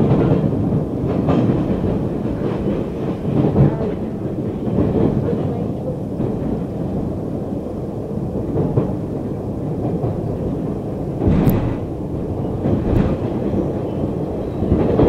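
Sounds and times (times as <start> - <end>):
subway car rumbling on track: 0.0 - 15.0
train rushing: 0.0 - 15.0.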